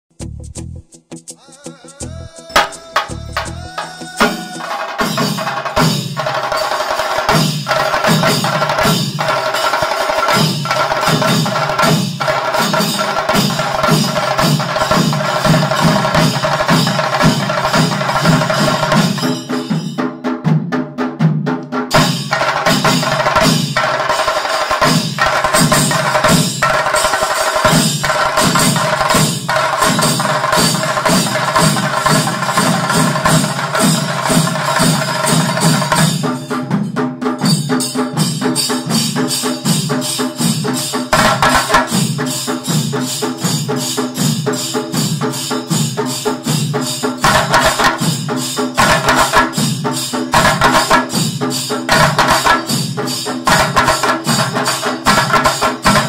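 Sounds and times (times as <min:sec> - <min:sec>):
fast dense drumming: 0:02.0 - 0:19.9, 0:21.3 - 0:36.6, 0:37.4 - 0:56.0.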